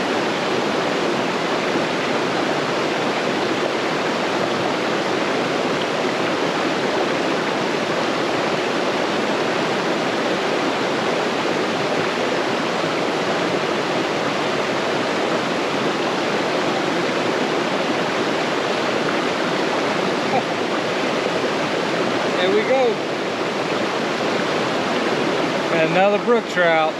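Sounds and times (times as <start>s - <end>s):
stream rushing over rocks: 0.0s - 26.9s.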